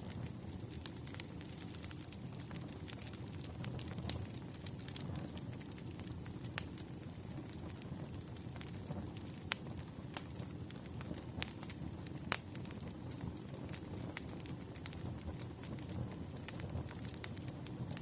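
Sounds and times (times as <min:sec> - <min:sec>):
fire flames rumbling: 0:00.0 - 0:18.0
logs crackling and popping: 0:00.0 - 0:18.0.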